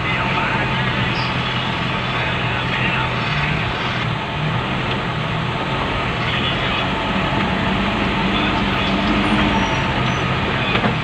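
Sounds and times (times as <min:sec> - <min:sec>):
truck diesel engine roaring: 0:00.0 - 0:11.0.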